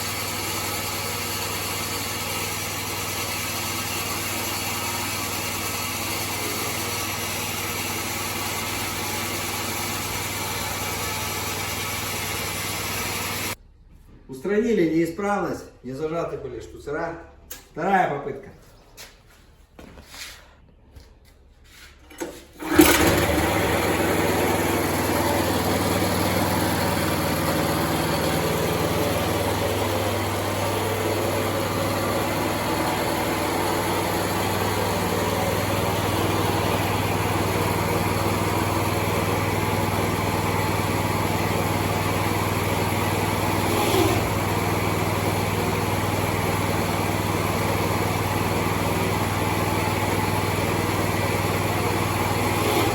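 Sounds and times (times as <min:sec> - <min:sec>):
small petrol engine running: 0:00.0 - 0:13.6, 0:22.3 - 0:52.9.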